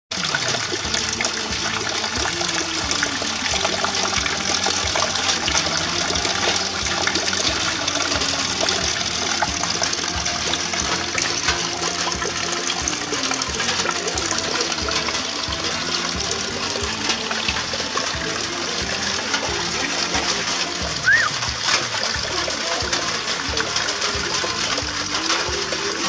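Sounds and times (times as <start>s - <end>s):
steady rain: 0.1s - 26.0s
water pouring into bucket: 0.1s - 26.0s.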